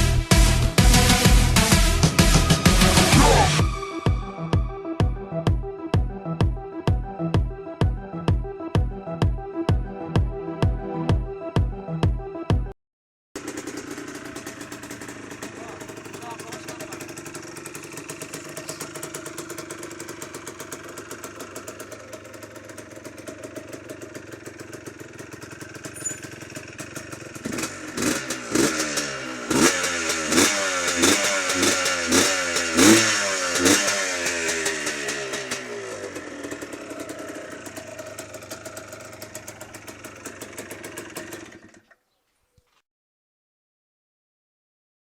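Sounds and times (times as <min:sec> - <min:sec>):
two-stroke engine idling and revving: 0:00.0 - 0:08.5, 0:13.4 - 0:42.0.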